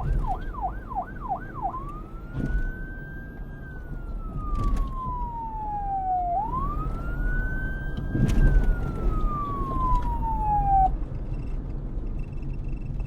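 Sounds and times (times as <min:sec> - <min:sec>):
emergency vehicle siren: 0:00.0 - 0:11.2.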